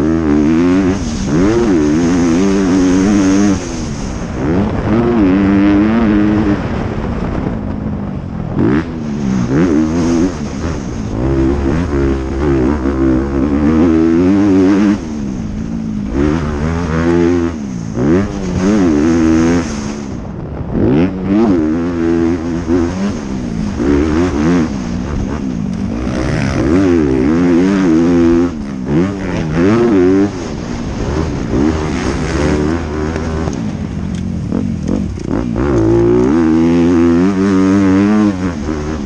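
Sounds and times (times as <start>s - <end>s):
motocross bike engine revving: 0.0s - 7.6s, 8.4s - 39.0s.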